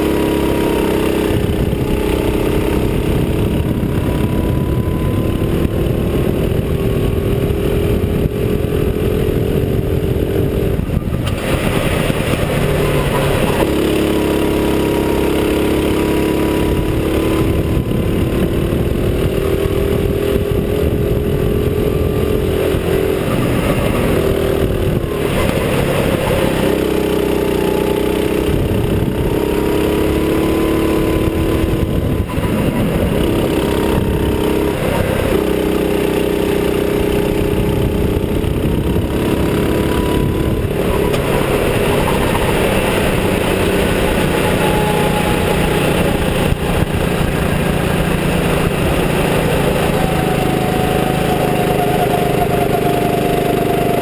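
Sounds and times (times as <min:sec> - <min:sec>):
small engine running hard: 0:00.0 - 0:54.0.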